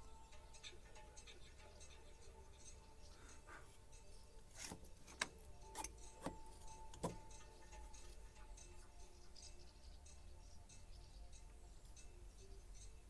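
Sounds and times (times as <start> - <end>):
faint steady background tones: 0.0 - 13.0.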